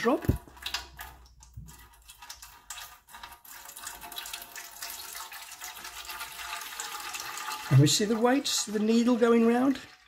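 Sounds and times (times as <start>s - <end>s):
water pouring into plastic bowl: 0.0s - 10.0s.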